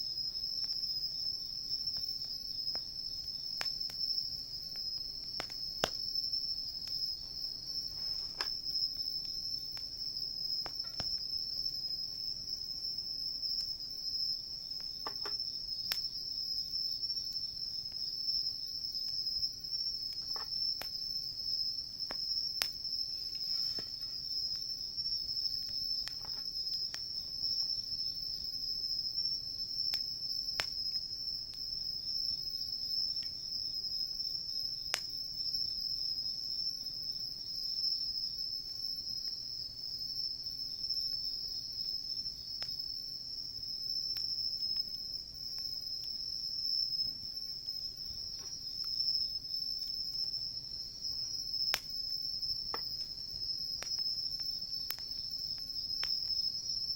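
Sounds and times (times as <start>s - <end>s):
crickets and insects chirping: 0.0s - 56.9s
campfire crackling: 0.2s - 36.6s, 38.6s - 56.9s.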